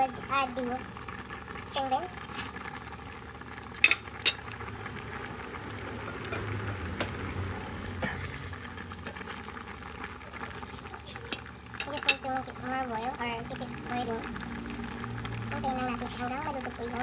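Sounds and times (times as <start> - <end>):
broth bubbling in a pot: 0.0 - 17.0.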